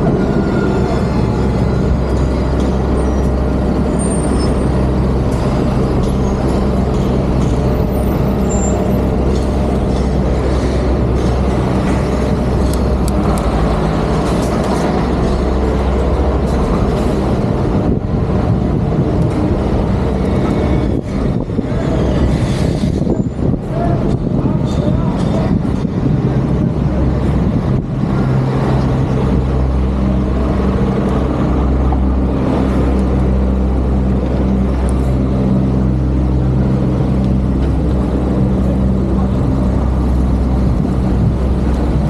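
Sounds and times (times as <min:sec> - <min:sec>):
heavy vehicle engine humming: 0:00.0 - 0:42.0
road noise: 0:00.0 - 0:42.0.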